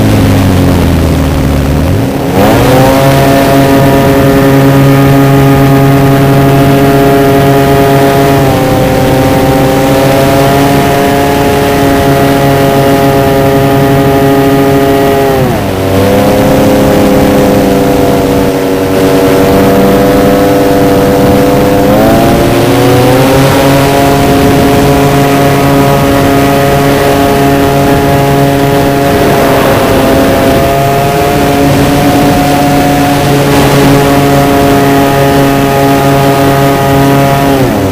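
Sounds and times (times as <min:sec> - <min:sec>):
model plane motor and propeller: 0:03.6 - 0:37.9.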